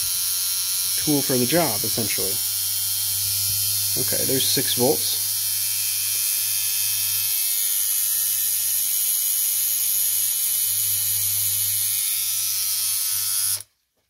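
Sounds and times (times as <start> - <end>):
tattoo machine buzzing: 0.0 - 13.7.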